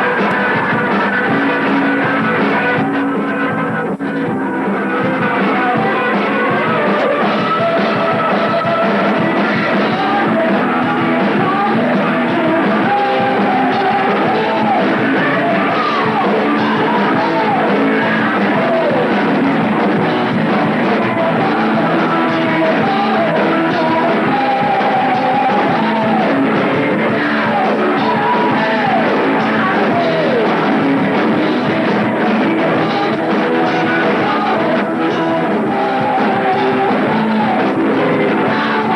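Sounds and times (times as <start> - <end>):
distorted electric guitar: 0.0 - 38.9
drums: 0.0 - 38.9
person singing: 0.0 - 38.9.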